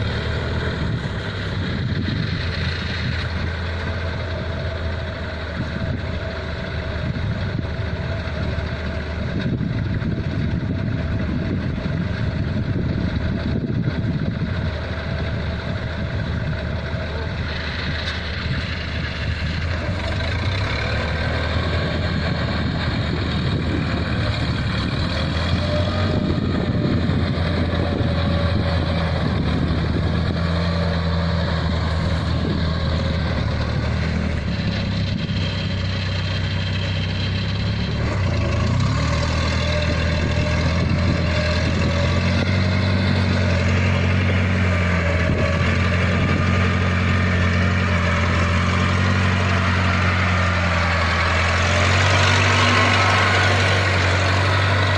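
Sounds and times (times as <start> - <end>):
harvester diesel engine humming: 0.0 - 54.9.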